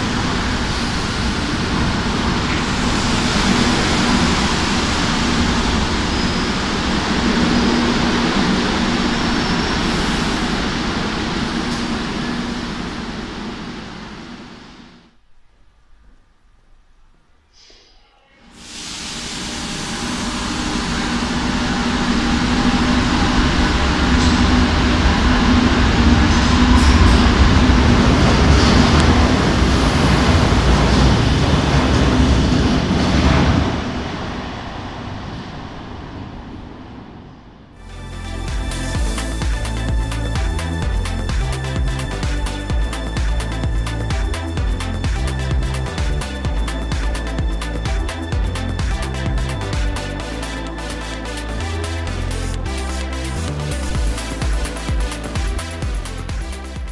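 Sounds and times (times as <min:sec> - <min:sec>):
train wheels and motors rumbling: 0:00.0 - 0:15.3, 0:18.6 - 0:56.9
low hum: 0:00.0 - 0:56.9.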